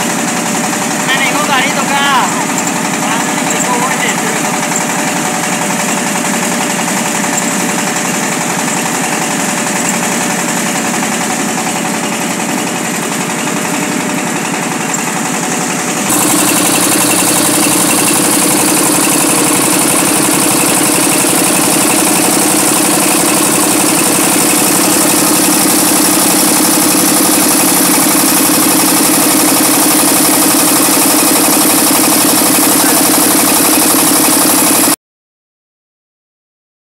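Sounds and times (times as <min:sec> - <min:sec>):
rice mill engine running: 0:00.0 - 0:35.0.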